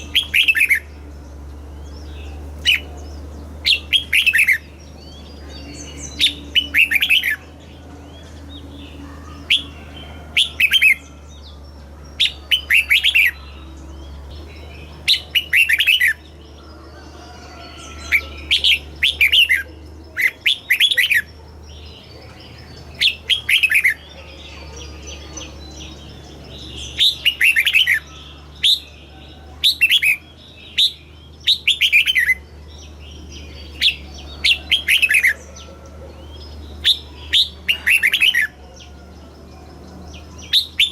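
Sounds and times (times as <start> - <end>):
bulbul singing warbled phrases: 0.0 - 40.9
low steady hum: 0.0 - 40.9.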